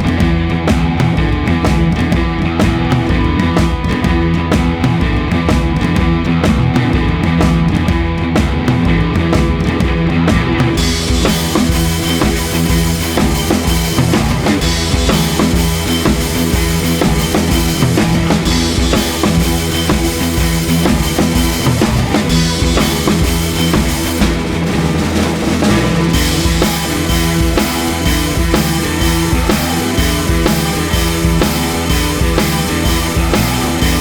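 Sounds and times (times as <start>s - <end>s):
rock music with drums bass guitar: 0.0s - 34.0s.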